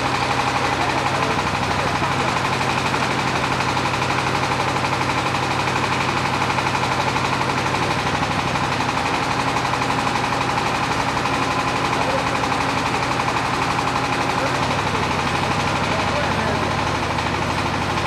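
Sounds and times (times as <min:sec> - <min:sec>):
drilling rig engine knocking: 0:00.0 - 0:18.0.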